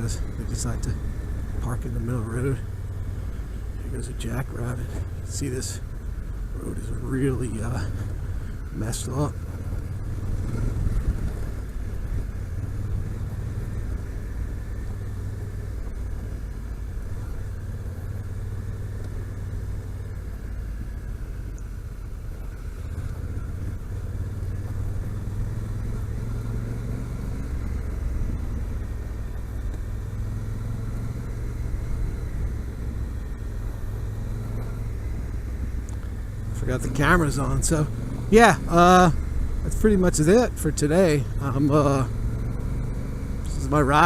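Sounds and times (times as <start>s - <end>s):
motorcycle engine running: 0.0s - 44.0s
road noise: 0.0s - 44.0s
wind: 0.0s - 44.0s.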